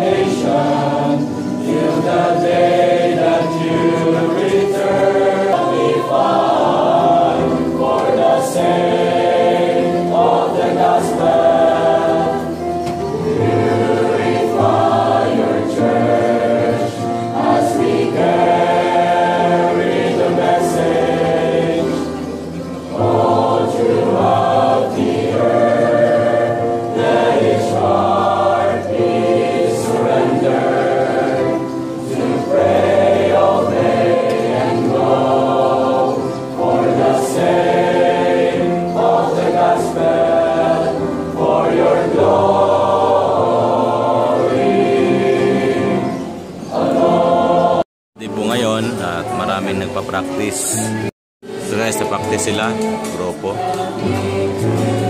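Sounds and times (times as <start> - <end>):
group singing a worship song: 0.0 - 47.9, 50.6 - 55.0.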